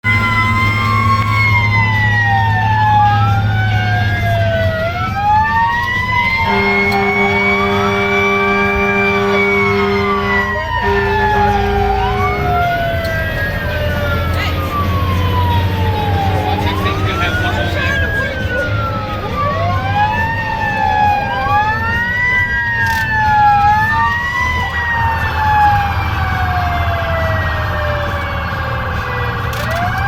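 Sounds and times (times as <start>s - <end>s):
horn blast: 0.0s - 2.4s, 5.9s - 30.0s
sirens wailing: 0.0s - 30.0s
truck engine drone: 0.0s - 30.0s.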